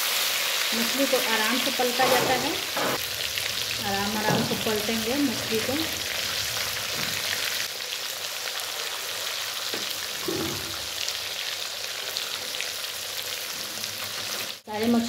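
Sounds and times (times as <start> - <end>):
fish sizzling in oil: 0.0 - 15.0.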